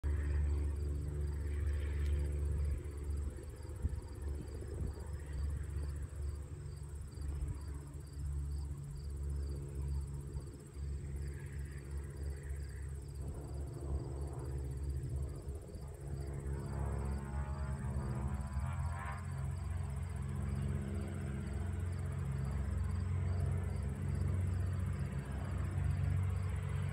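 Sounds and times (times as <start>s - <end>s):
low hum and rumble: 0.0s - 26.9s
crickets chirping: 0.2s - 26.9s.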